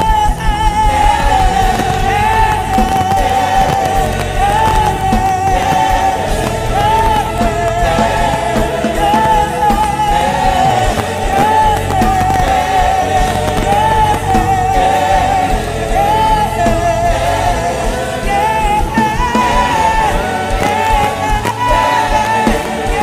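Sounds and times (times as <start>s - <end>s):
musical accompaniment: 0.0s - 23.0s.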